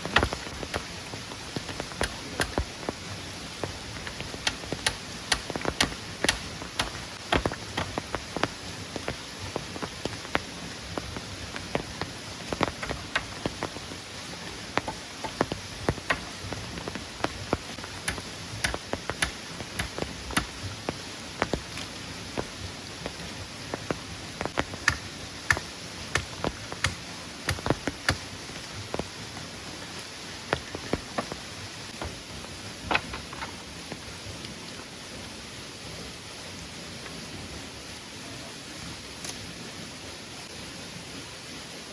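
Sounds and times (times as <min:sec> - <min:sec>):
raindrops tapping close by: 0:00.0 - 0:34.6
steady rain hiss: 0:00.0 - 0:41.9.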